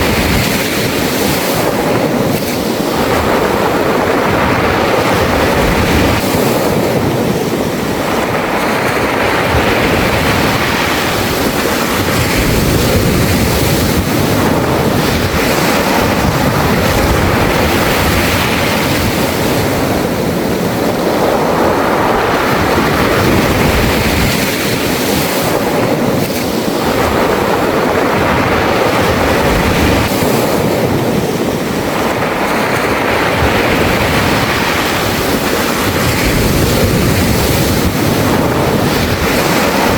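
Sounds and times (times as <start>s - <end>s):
waves washing over pebbles: 0.0s - 39.9s.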